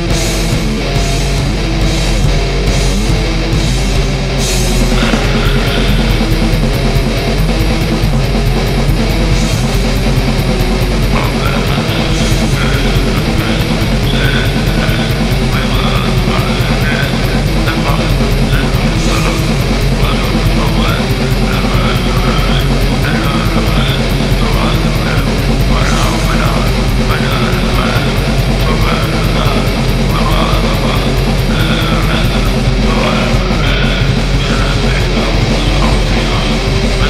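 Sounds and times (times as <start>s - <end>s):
hardcore punk music: 0.0s - 37.0s.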